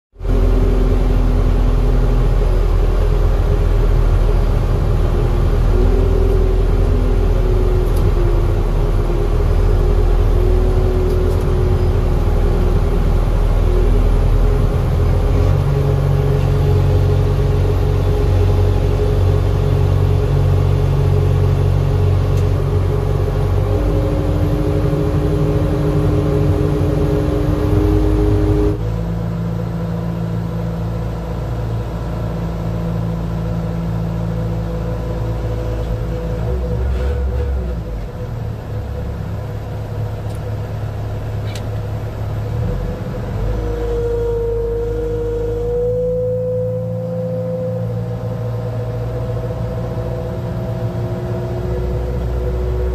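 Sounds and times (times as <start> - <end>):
tractor engine rumbling: 0.2 - 52.9.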